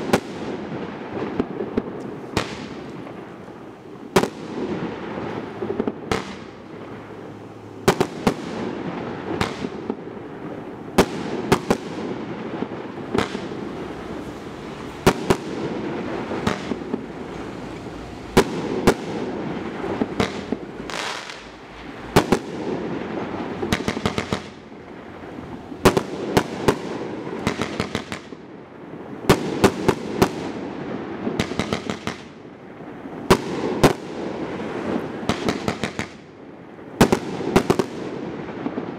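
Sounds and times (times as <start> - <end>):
rapid firework cracks: 0.0 - 3.5, 4.1 - 7.1, 7.8 - 10.2, 11.0 - 14.2, 14.9 - 25.1, 25.8 - 28.5, 29.3 - 32.4, 33.2 - 36.4, 37.0 - 38.9
firework bangs: 0.0 - 38.9
firework crackling: 0.0 - 38.9.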